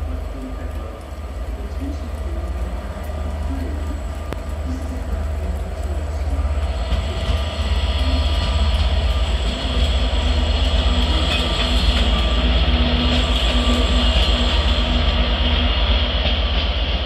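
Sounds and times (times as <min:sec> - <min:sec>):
train hiss: 0:00.0 - 0:17.0
train rumbling: 0:00.0 - 0:17.0.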